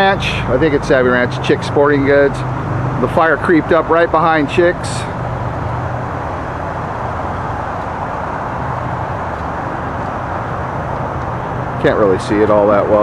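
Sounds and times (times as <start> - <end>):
constant rushing noise: 0.0 - 13.0
low engine hum: 0.0 - 13.0.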